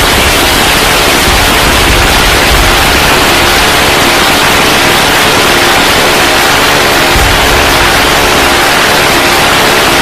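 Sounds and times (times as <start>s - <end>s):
jet aircraft roaring: 0.0s - 10.0s.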